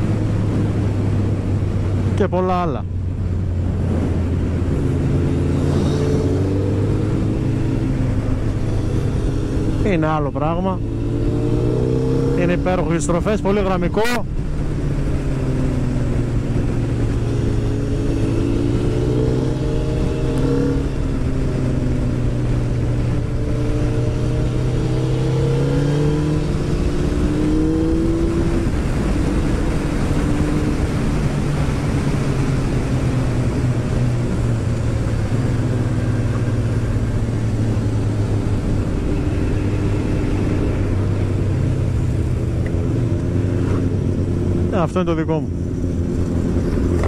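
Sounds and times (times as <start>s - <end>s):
motorcycle engine cruising: 0.0s - 47.0s
wind noise: 0.0s - 47.0s.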